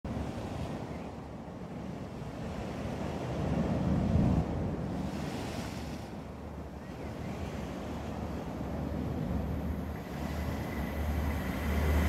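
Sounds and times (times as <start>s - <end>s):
sea waves breaking: 0.1s - 12.0s
wind buffeting microphone: 0.1s - 12.0s.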